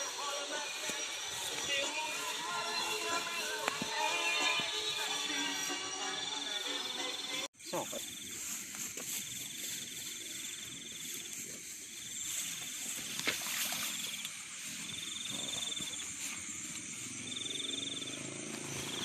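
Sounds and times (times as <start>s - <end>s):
insects and frogs chorus: 0.0s - 19.0s.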